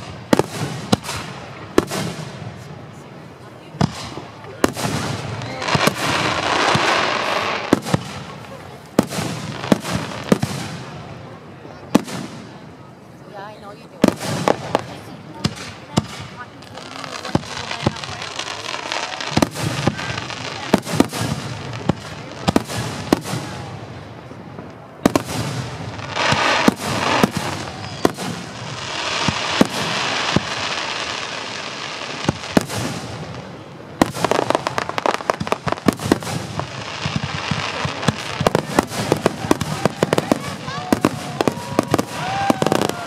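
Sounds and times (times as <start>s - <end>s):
fireworks bangs: 0.0s - 43.0s
fireworks hiss: 3.8s - 11.0s, 14.0s - 23.9s, 25.0s - 43.0s.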